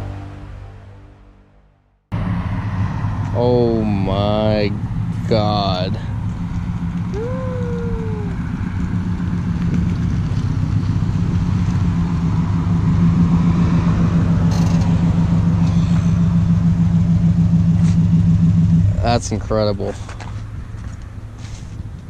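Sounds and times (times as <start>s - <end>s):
car engine at low revs: 2.1s - 22.0s.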